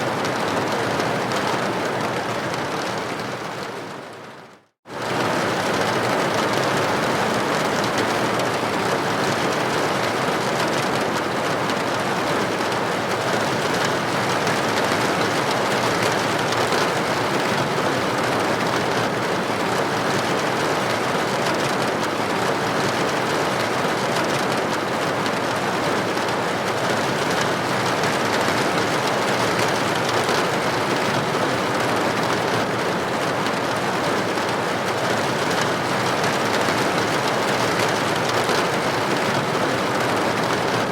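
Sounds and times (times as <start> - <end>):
rain pattering on window: 0.0 - 40.9.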